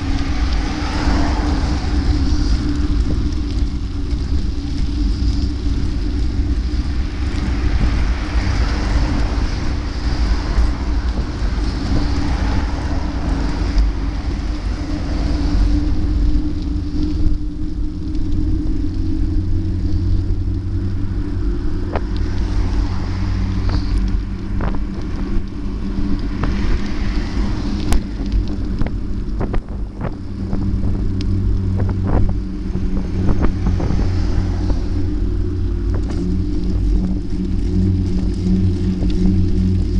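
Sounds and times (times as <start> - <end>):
vehicle engine cruising: 0.0 - 39.9
wind and road noise: 0.0 - 39.9.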